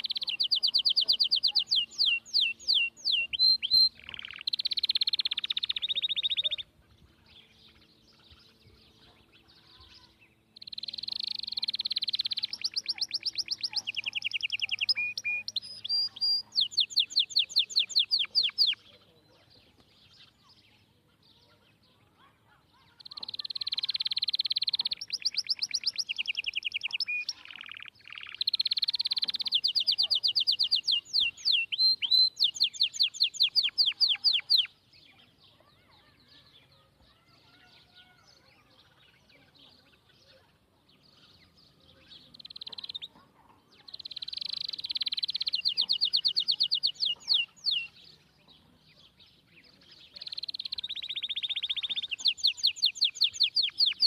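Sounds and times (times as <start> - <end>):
songbird trills and chirps: 0.0 - 54.0.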